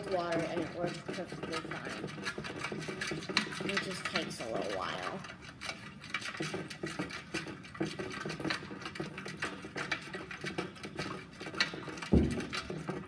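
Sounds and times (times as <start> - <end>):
utensil clinking and scraping glass bowl: 0.0 - 13.0.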